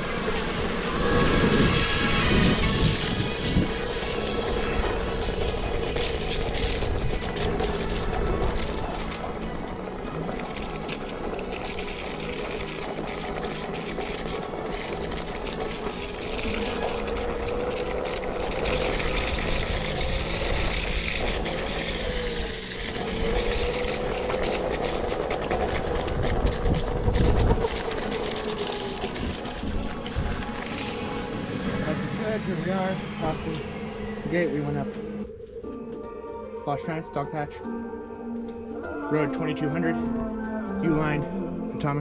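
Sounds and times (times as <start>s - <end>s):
hub motor whine: 0.0s - 42.0s.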